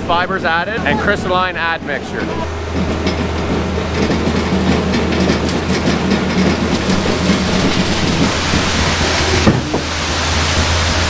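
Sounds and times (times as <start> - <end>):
diesel engines running: 0.0 - 11.0
wet concrete sliding down chute: 0.2 - 11.0.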